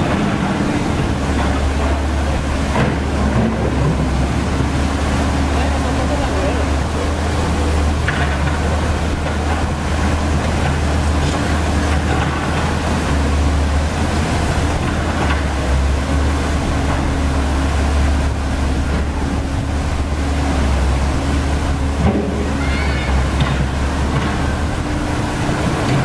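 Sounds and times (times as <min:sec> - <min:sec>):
excavator diesel engine: 0:00.0 - 0:26.0
river water pouring over weir: 0:00.0 - 0:26.0.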